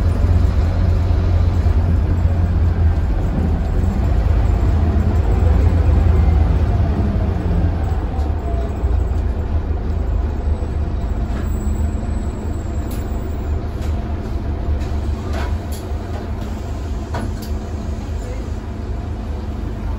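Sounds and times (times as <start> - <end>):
bus engine rumble: 0.0 - 19.9
road noise: 0.0 - 19.9.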